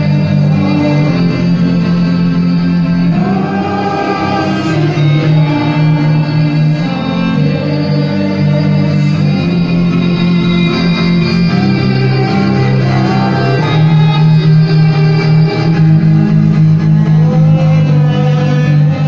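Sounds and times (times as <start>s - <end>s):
amplified cellos playing: 0.0s - 19.0s.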